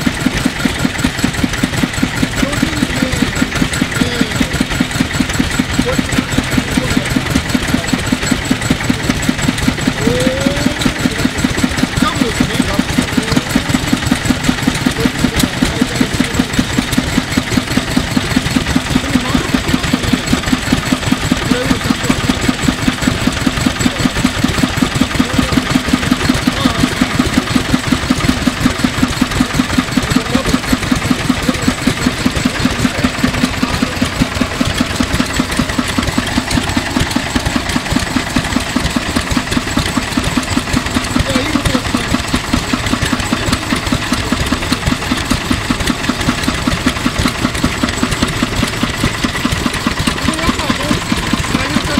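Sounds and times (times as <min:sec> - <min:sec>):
tiller engine running: 0:00.0 - 0:51.9.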